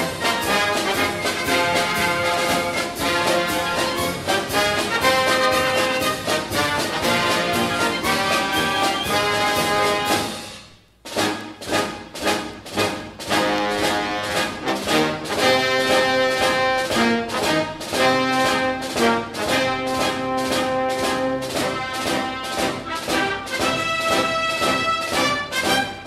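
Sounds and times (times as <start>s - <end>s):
orchestral music with steady beat: 0.0s - 26.0s.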